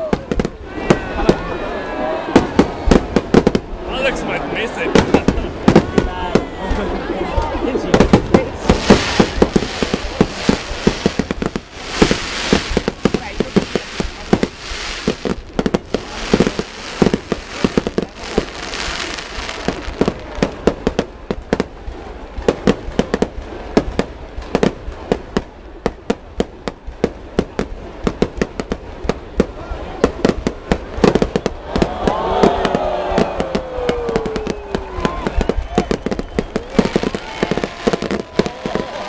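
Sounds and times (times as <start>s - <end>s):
fireworks bangs: 0.0s - 39.0s
fireworks crackling: 0.0s - 39.0s.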